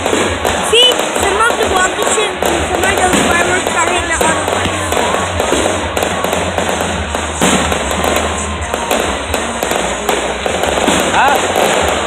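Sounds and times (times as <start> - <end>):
fireworks crackling pops: 0.0 - 12.0
loud firework bang: 0.0 - 12.0.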